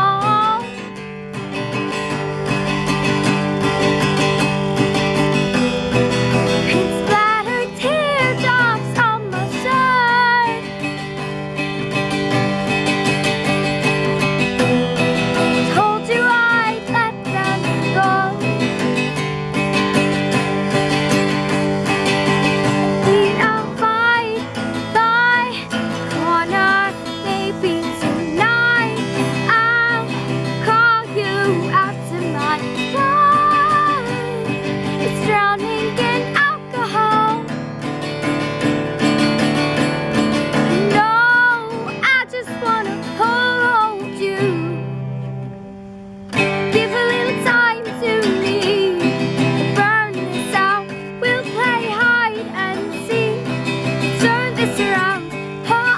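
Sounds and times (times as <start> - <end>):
girl singing: 0.0 - 37.8, 39.8 - 45.2, 46.4 - 55.9
acoustic guitar strumming: 0.0 - 55.9.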